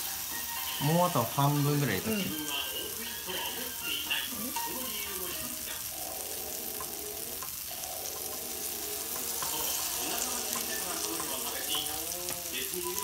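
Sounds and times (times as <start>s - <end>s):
batter sizzling on griddle: 0.0s - 13.0s.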